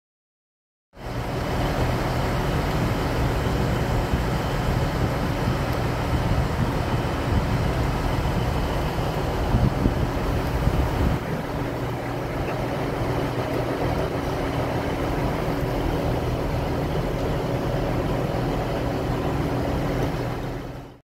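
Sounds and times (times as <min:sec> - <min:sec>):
electric train humming: 0:01.0 - 0:21.0.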